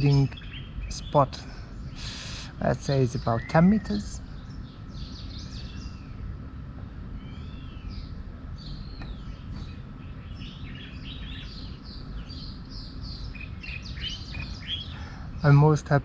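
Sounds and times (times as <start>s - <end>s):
low background rumble: 0.0s - 16.0s
songbirds chirping: 0.0s - 16.0s.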